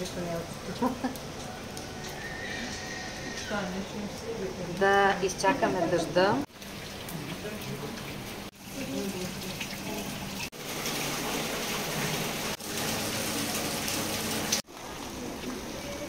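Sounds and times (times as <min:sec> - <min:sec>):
rain falling on stone paving: 0:00.0 - 0:16.0
water running off: 0:00.0 - 0:16.0.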